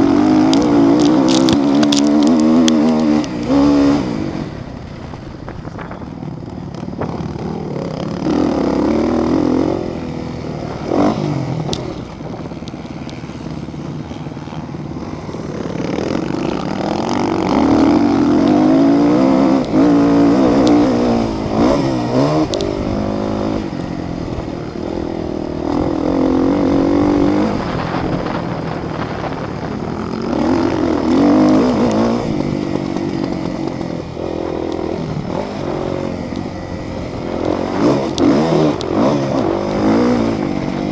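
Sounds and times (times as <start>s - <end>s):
motorcycle engines revving and passing: 0.0s - 40.9s.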